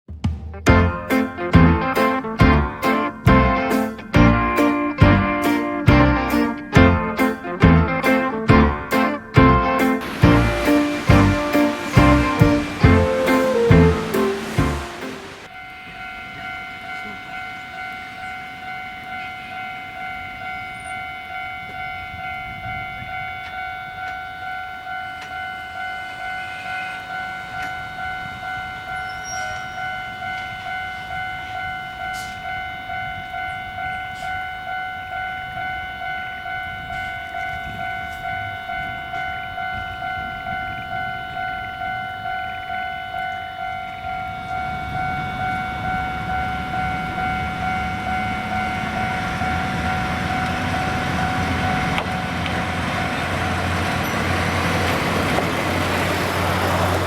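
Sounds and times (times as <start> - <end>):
level-crossing warning bell: 0.9 - 57.0.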